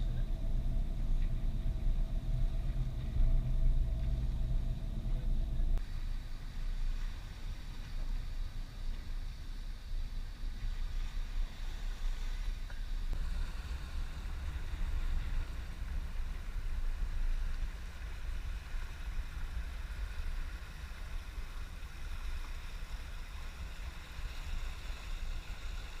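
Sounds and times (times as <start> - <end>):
boat engine low rumble: 0.0 - 26.0
faint water wash: 0.0 - 26.0.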